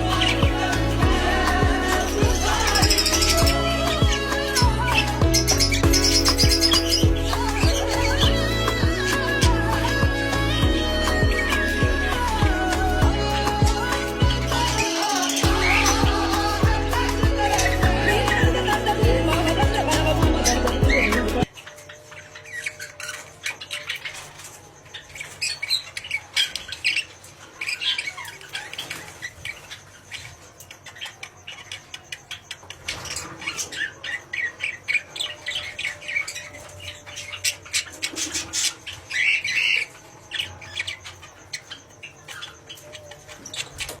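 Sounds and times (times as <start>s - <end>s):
birds squawking and chirping: 0.0s - 44.0s.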